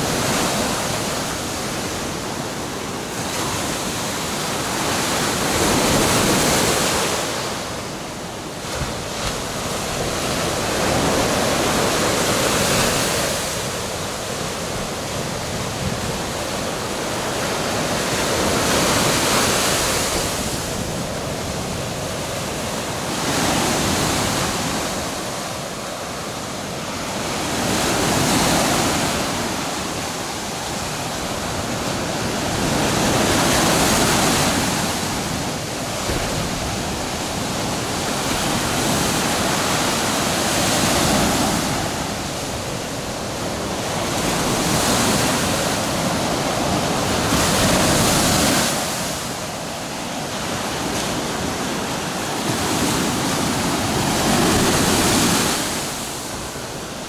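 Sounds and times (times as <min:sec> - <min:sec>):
surf washing up sandy beach: 0:00.0 - 0:57.0.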